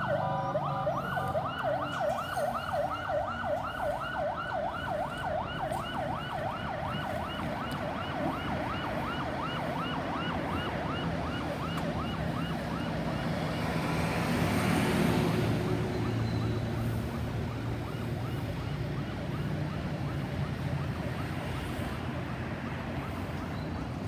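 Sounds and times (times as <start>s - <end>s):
ambulance siren yelping: 0.0s - 13.8s, 14.5s - 24.0s
passing vehicle road noise: 0.0s - 24.0s.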